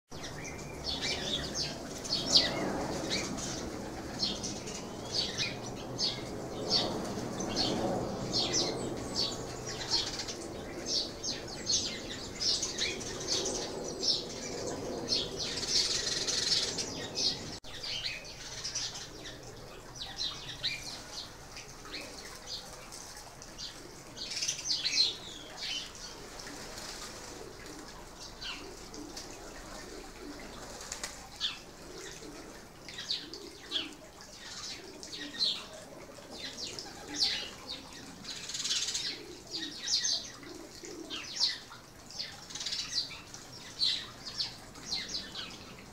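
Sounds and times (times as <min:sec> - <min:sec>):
sparrows chirping: 0:00.1 - 0:30.6, 0:31.2 - 0:45.9.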